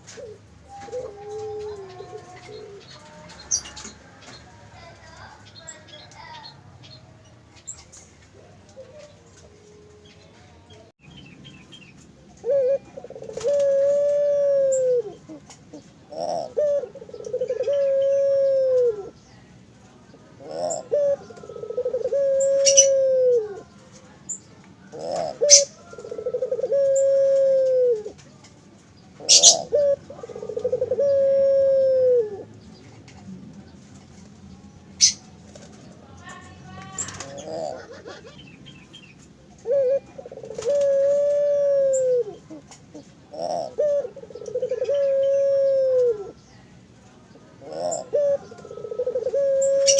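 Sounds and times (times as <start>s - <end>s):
dove cooing: 0.0s - 10.9s, 12.3s - 19.2s, 20.1s - 24.0s, 24.8s - 28.5s, 29.1s - 35.9s, 36.8s - 38.7s, 39.4s - 46.6s, 47.6s - 49.9s
small birds chirping: 0.0s - 49.9s.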